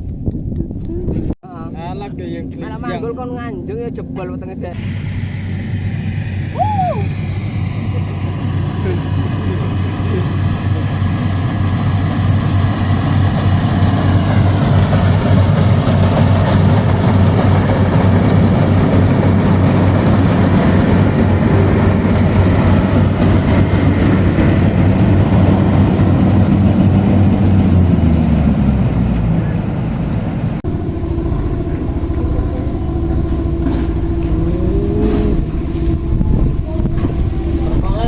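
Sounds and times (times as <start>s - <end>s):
combine harvester diesel engine drone: 3.7s - 38.0s
machinery noise: 4.8s - 38.0s.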